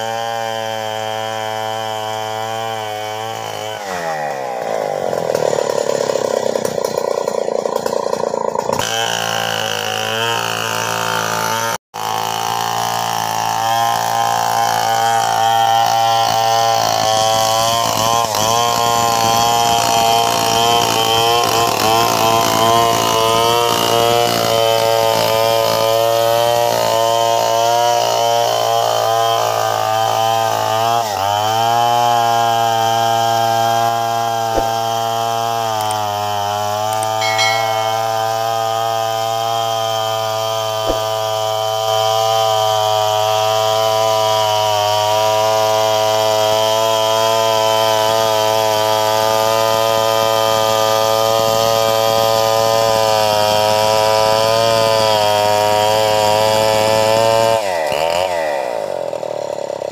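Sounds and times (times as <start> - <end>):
chainsaw cutting log: 0.0 - 38.0, 39.1 - 59.9.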